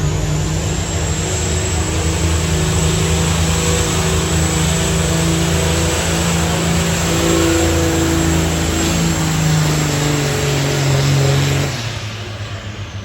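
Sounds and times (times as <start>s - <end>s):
diesel engine revving hard: 0.0s - 13.0s.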